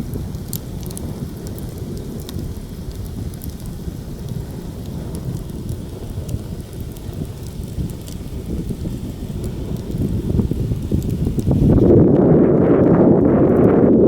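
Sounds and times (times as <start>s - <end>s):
campfire crackling and popping: 0.0s - 14.0s
wind blowing across microphone: 0.0s - 14.0s.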